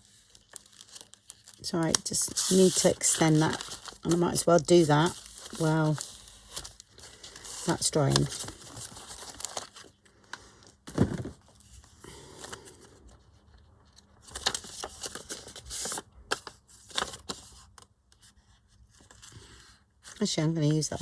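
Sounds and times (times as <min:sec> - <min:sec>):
paper rustling and scraping: 0:00.0 - 0:21.0.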